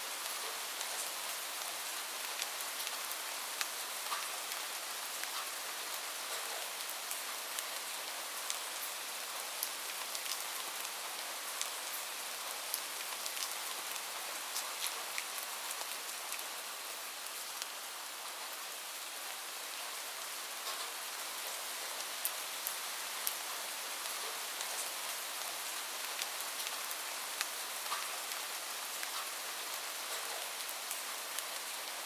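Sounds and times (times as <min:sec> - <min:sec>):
light rain hiss: 0:00.0 - 0:32.0.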